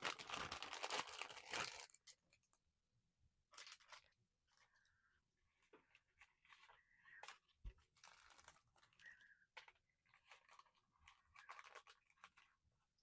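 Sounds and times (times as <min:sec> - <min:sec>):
plastic blister pack crinkling: 0:00.0 - 0:02.4, 0:03.5 - 0:04.8, 0:05.6 - 0:13.0.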